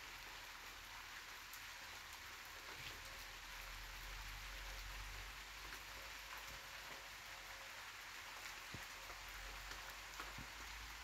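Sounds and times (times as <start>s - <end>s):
light rain on leaves: 0.0s - 11.0s.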